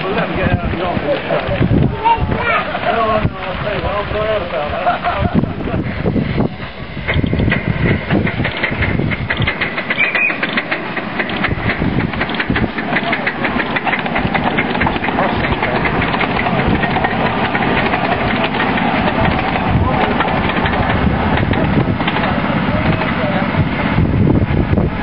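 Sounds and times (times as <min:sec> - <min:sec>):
steam locomotive exhaust beat: 0:00.0 - 0:25.0
wheels clicking over rails: 0:00.0 - 0:25.0.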